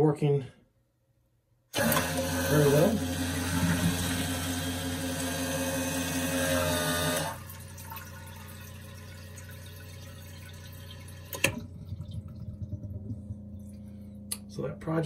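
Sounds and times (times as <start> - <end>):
toilet flush motor humming: 1.8 - 14.4.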